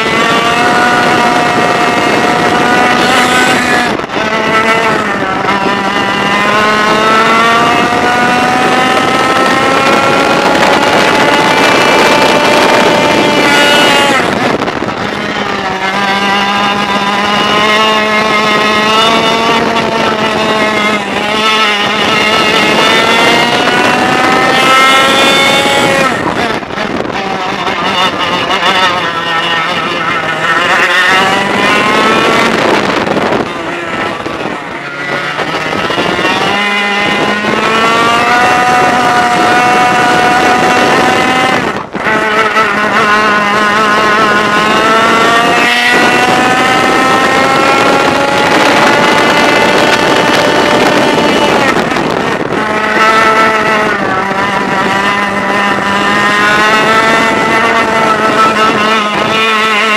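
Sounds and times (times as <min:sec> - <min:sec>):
kart engine at full throttle: 0:00.0 - 0:59.9.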